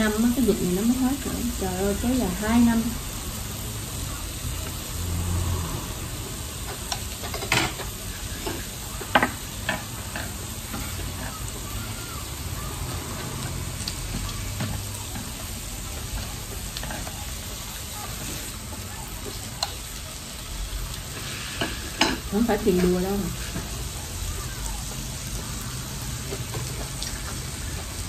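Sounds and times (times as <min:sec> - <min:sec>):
food sizzling on a grill plate: 0:00.0 - 0:28.0.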